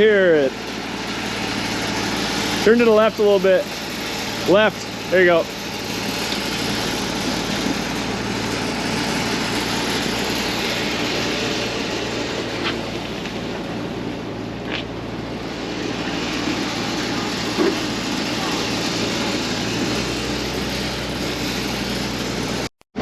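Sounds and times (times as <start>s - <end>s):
heavy vehicle engine running: 0.0s - 23.0s.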